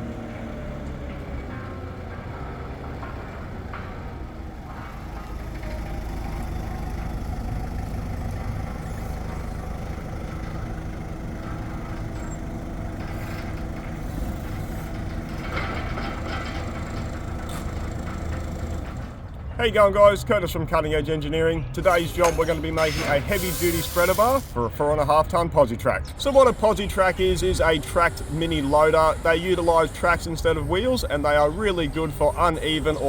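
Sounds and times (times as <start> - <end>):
mini loader engine running: 0.0 - 19.6, 21.8 - 24.6, 26.1 - 33.0.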